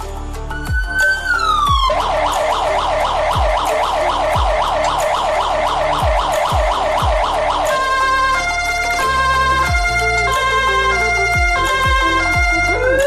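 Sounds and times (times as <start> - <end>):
emergency siren wailing and yelping: 0.5 - 13.0.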